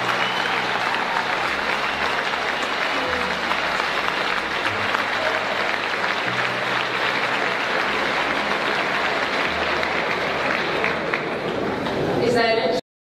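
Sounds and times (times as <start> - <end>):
large audience applauding: 0.0 - 12.2.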